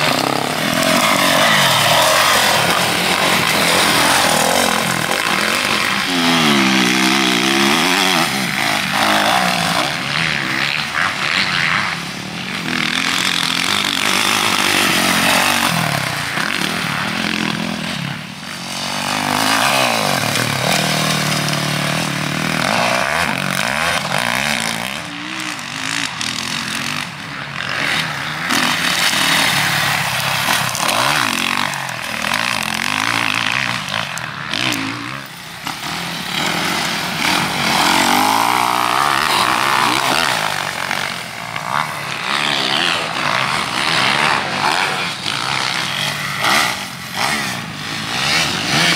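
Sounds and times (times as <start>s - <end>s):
motocross bike engine revving: 0.0s - 48.9s
steady rushing noise: 0.0s - 48.9s.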